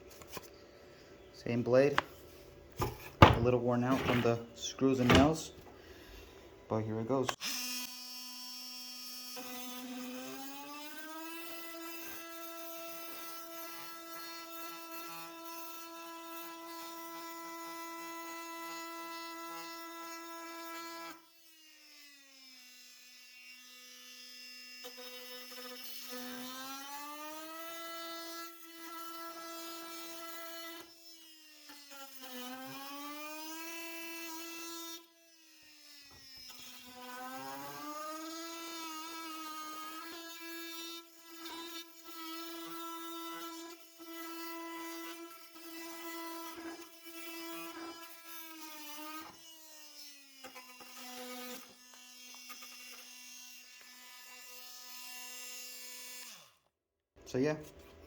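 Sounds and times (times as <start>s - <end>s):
oscillating multi-tool cutting wood: 7.2s - 56.6s.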